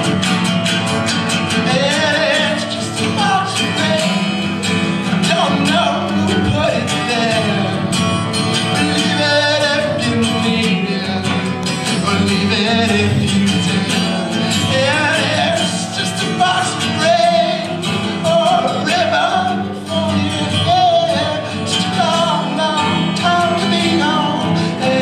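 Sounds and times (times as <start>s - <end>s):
strummed acoustic guitar: 0.0s - 25.0s
man singing: 1.5s - 25.0s.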